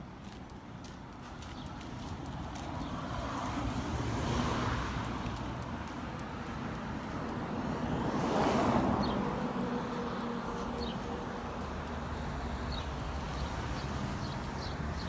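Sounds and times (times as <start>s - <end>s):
car passing: 1.8s - 15.0s.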